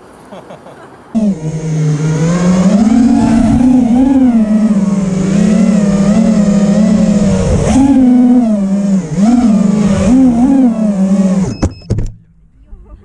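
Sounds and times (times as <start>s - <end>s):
drone motors and propellers humming: 1.2s - 12.5s.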